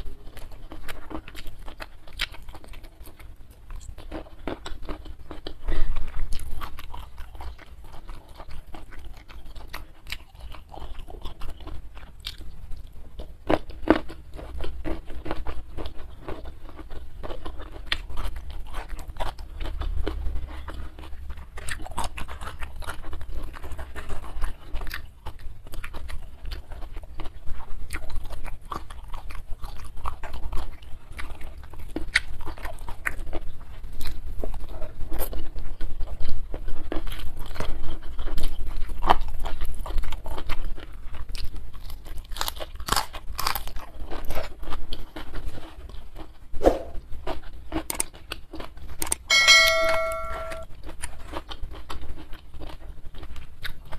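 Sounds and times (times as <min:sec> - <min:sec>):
chewing and crunching: 0:00.0 - 0:49.9, 0:50.6 - 0:53.9.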